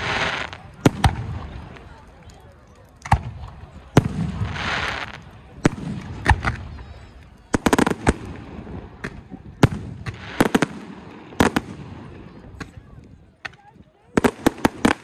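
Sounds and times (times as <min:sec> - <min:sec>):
firework bangs: 0:00.0 - 0:02.0, 0:03.0 - 0:12.8, 0:13.4 - 0:15.0
firework crackling: 0:00.0 - 0:12.8, 0:13.4 - 0:15.0.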